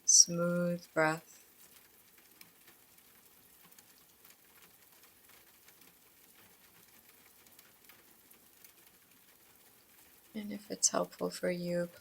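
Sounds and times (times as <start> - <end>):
faint rain pattering: 0.0 - 12.0.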